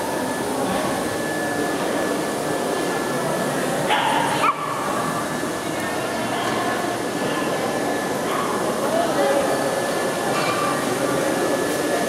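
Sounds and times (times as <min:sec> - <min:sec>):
crowded hall hum: 0:00.0 - 0:12.0
indistinct chatter: 0:00.0 - 0:12.0.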